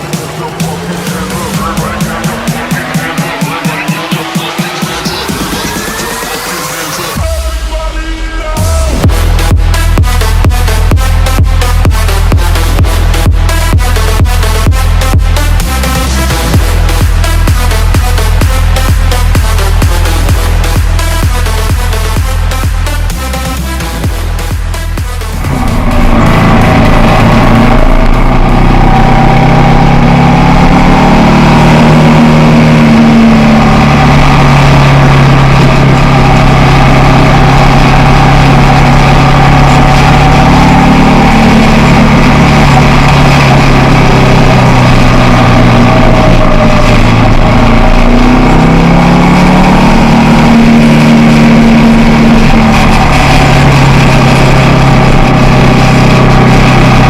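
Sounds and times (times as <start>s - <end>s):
motorcycle engine running: 0.0s - 6.2s, 8.6s - 57.0s.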